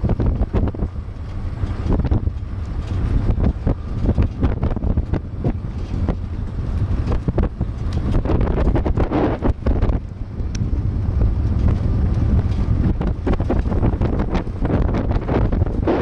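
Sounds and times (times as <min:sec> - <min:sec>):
vehicle running noise: 0:00.0 - 0:16.0
wind buffeting microphone: 0:00.0 - 0:16.0.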